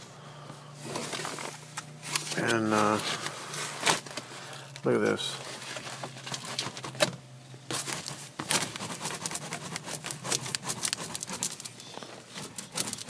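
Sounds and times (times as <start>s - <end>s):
faint steady hum: 0.0s - 13.0s
hands handling ductwork: 0.8s - 13.0s.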